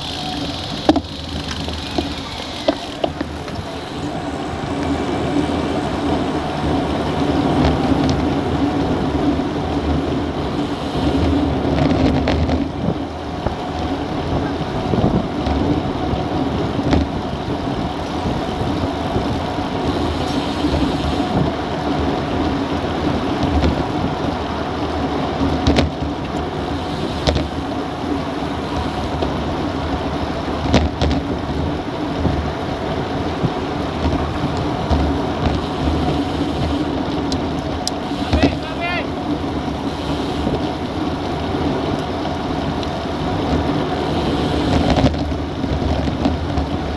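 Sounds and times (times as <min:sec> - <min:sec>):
tyre noise on road: 0:00.0 - 0:46.9
wind buffeting microphone: 0:00.0 - 0:46.9.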